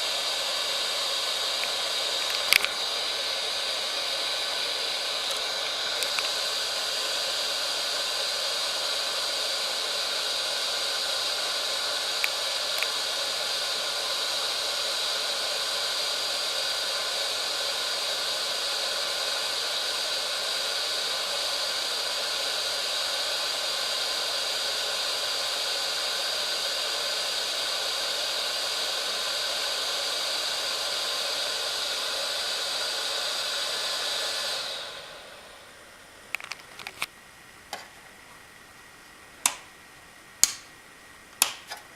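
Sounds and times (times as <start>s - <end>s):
hot air gun hissing: 0.0s - 37.1s.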